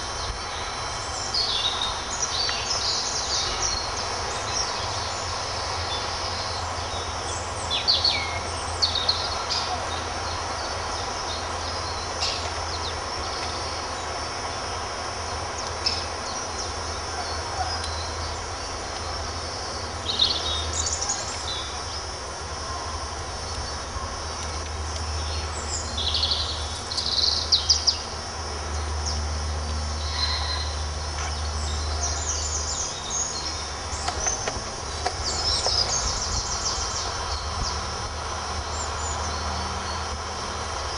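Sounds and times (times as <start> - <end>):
birds chirping and singing: 0.0 - 14.3, 15.2 - 22.2, 23.4 - 40.9
low rumble and hiss: 0.0 - 40.9.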